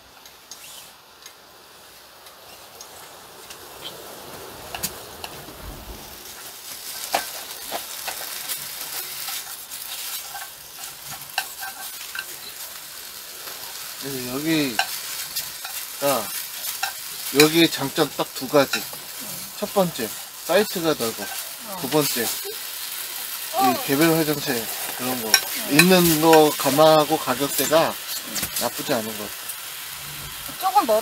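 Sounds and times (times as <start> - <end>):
food sizzling in a pan: 0.0 - 31.0.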